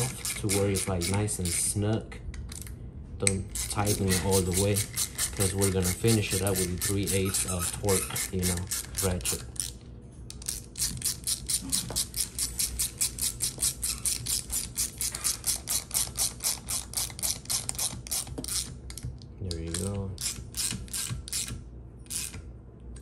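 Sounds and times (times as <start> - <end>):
hand ratchet clicking: 0.0 - 1.6, 3.3 - 22.4.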